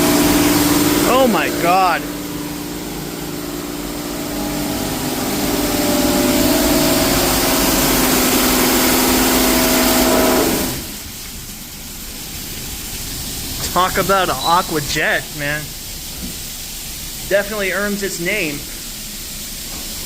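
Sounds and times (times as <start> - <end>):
high-pressure water spray hiss: 0.0 - 20.0
pump whine: 0.0 - 20.0.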